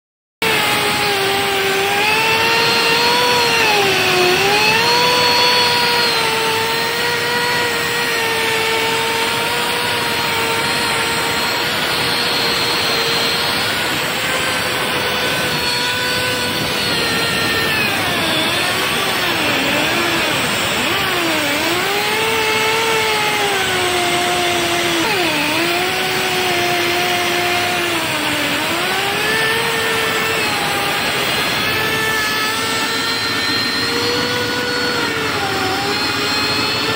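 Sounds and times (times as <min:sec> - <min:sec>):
grinding machine motor whine: 0:00.4 - 0:36.9.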